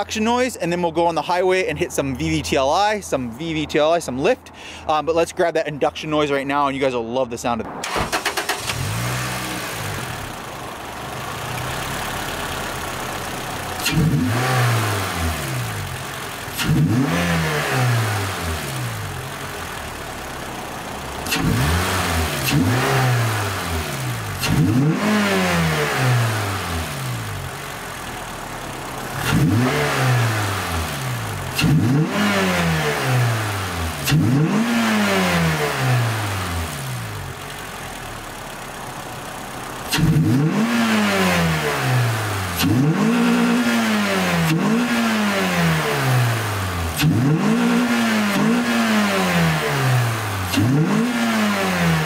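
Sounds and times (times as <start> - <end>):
car engine revving: 7.5 - 52.0.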